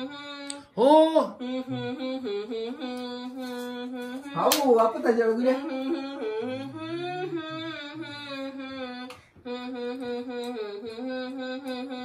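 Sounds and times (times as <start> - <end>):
person humming: 0.0 - 12.0.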